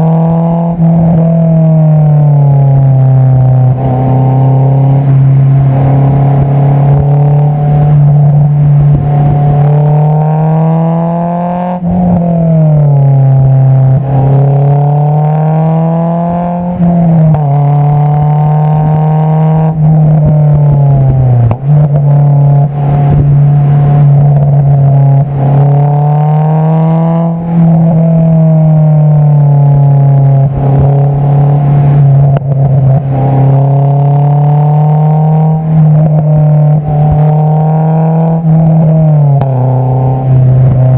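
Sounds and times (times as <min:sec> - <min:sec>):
car exhaust accelerating: 0:00.0 - 0:40.9.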